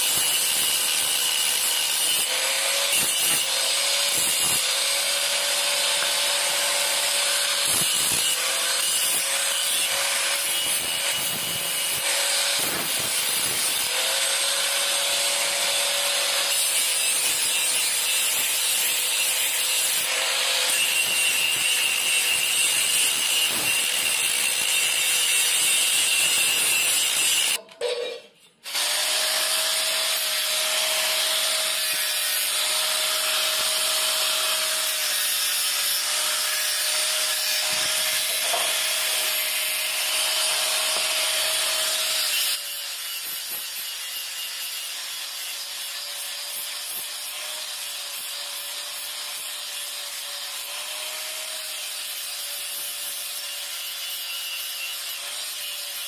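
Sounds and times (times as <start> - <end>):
angle grinder grinding steel: 0.0 - 27.7, 28.3 - 56.0.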